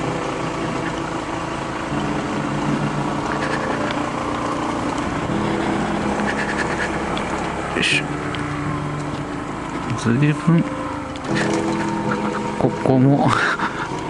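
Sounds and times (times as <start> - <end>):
scooter engine running: 0.0 - 14.0.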